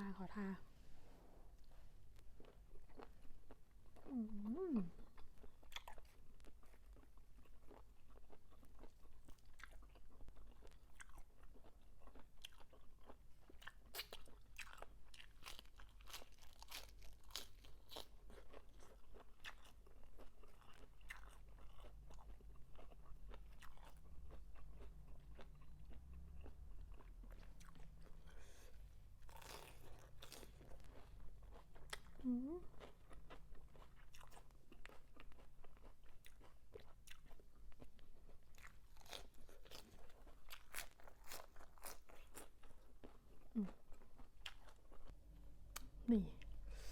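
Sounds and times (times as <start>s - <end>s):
chewing and crunching: 1.6s - 46.9s.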